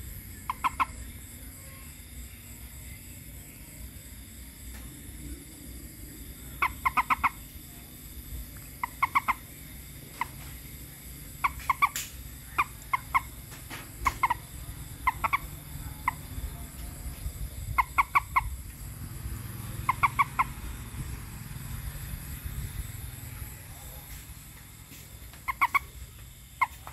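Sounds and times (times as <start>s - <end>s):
frog croaking: 0.0s - 3.6s, 4.7s - 26.9s.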